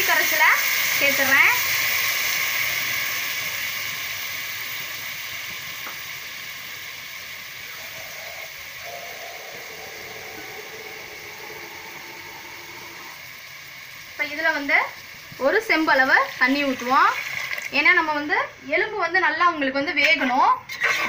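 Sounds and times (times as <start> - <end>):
liquid sizzling in hot oil: 0.0 - 19.3.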